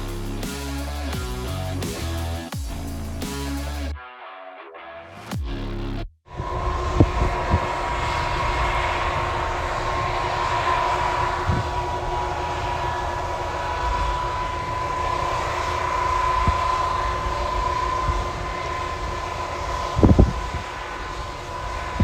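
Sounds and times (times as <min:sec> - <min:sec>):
high whine: 0:00.0 - 0:22.0.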